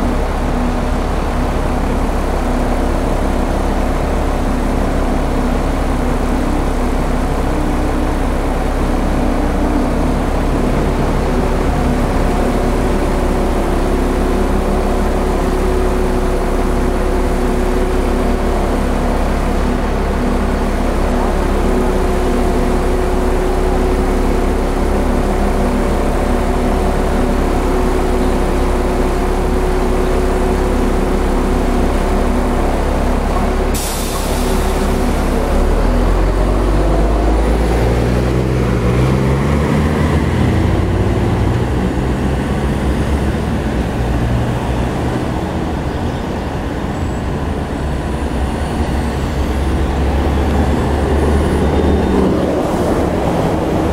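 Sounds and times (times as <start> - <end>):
tram humming: 0.0 - 53.9
tram motors growling: 0.0 - 53.9.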